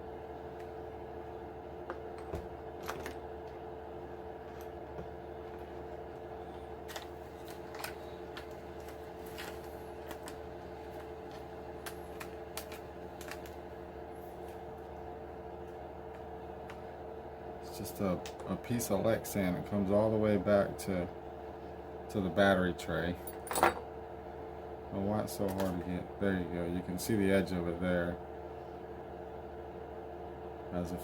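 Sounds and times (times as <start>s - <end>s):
steady room hum: 0.0s - 31.0s.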